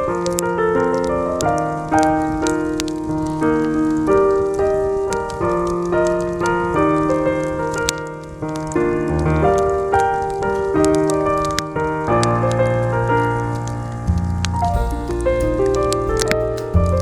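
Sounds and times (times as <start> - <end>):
soft jazz piano music: 0.0 - 17.0.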